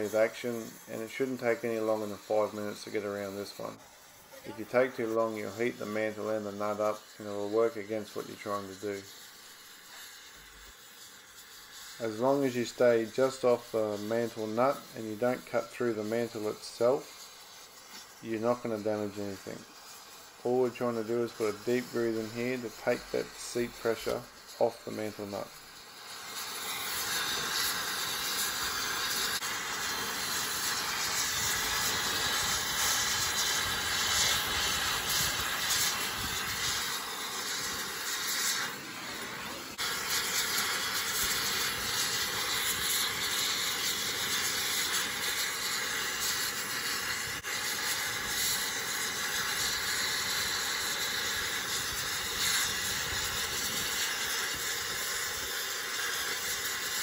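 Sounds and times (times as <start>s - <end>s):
cutting torch hissing: 0.0s - 57.0s.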